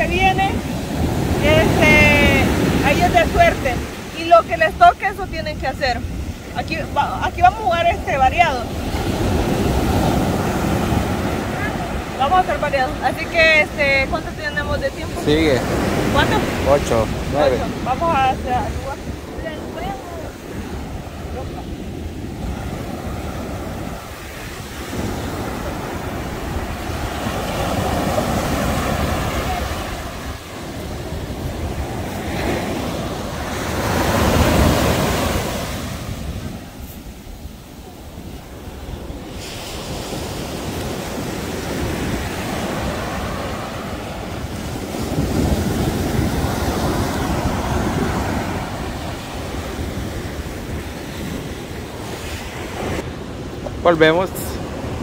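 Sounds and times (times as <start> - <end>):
surf washing onto sandy shore: 0.0 - 55.0
wind rumbling on microphone: 0.0 - 55.0.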